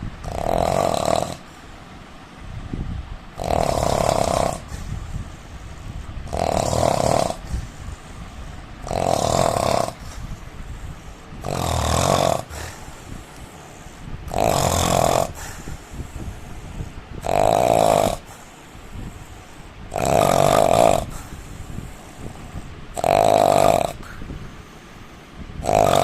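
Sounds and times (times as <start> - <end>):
man snoring loudly: 0.0 - 1.6, 3.3 - 5.0, 6.2 - 24.4, 25.6 - 26.0
soft breathing: 1.0 - 26.0.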